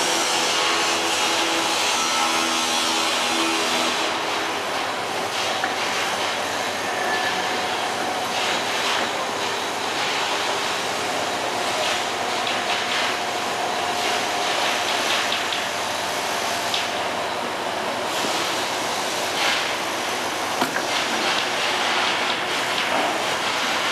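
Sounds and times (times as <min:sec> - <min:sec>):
heavy construction machinery: 0:00.0 - 0:23.9.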